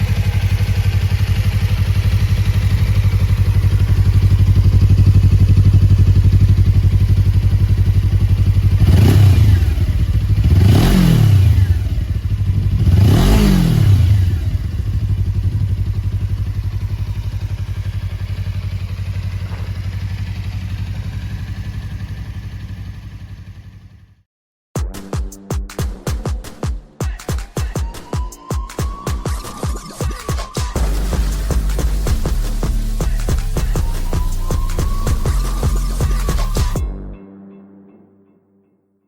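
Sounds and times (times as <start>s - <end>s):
motorcycle engine idling and revving: 0.0s - 24.3s, 29.0s - 36.8s.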